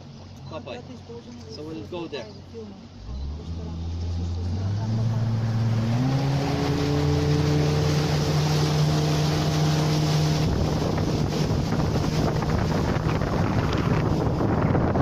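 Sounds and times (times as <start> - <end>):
boat engine running: 0.0 - 15.0
water and wind rushing: 0.0 - 15.0.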